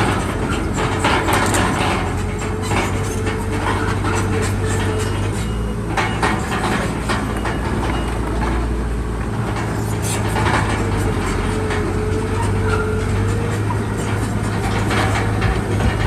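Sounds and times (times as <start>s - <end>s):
bulldozer engine hum: 0.0s - 16.0s
metallic clanks and squeaks: 0.0s - 16.0s.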